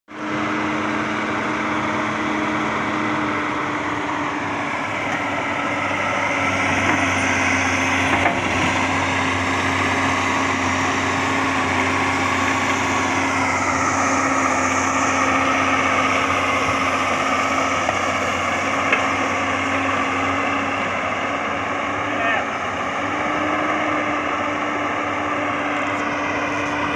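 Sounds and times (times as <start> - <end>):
excavator diesel engine running: 0.1 - 26.9
high hydraulic whine: 0.2 - 26.9.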